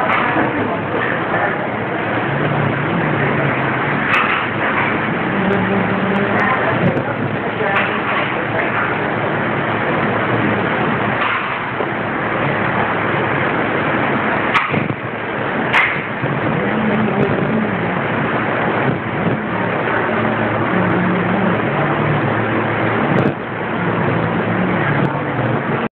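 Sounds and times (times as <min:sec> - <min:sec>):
fans steady rushing noise: 0:00.0 - 0:25.9.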